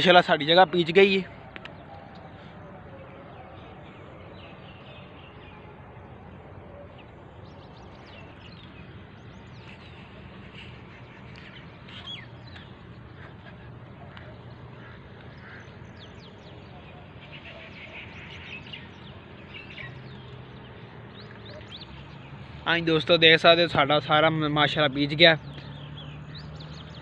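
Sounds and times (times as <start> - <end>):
birds chirping and calling: 0.0 - 27.0.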